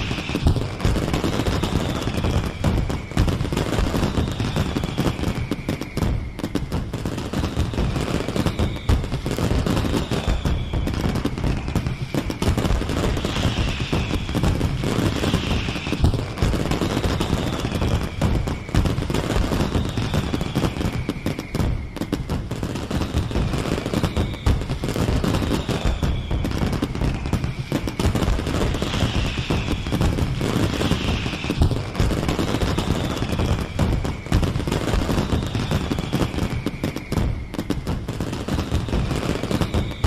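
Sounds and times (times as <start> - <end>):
falling high whistle: 0.0 - 40.0
fireworks crackling bangs: 0.0 - 40.0.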